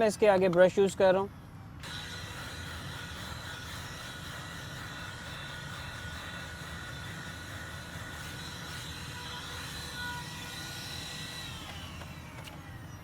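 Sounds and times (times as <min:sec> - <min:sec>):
handheld vacuum cleaner whine: 0:01.8 - 0:13.0.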